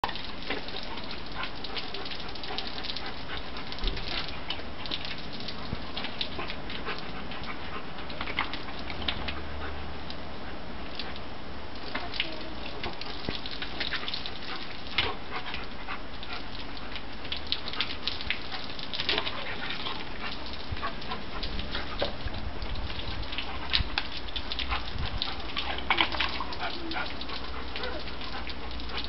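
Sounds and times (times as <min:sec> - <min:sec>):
water spraying on concrete: 0:00.0 - 0:29.0.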